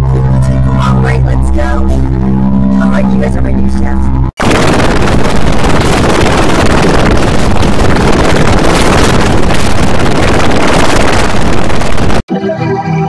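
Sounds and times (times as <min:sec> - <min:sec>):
harsh distorted noise: 0:00.0 - 0:12.4.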